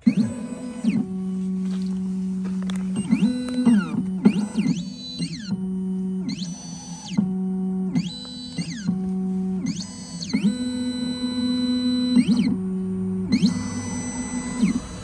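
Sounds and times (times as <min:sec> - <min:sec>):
machine motors whining: 0:00.0 - 0:15.0.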